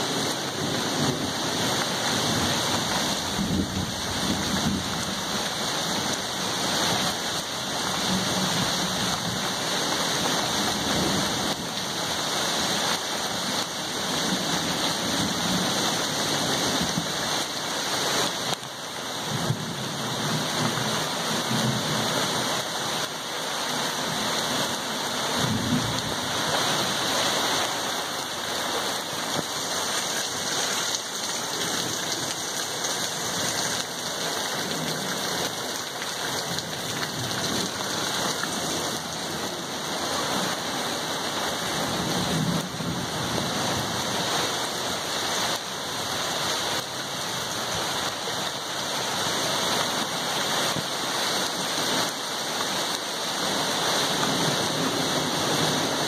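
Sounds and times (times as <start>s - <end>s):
heavy rain on trees: 0.0s - 56.0s.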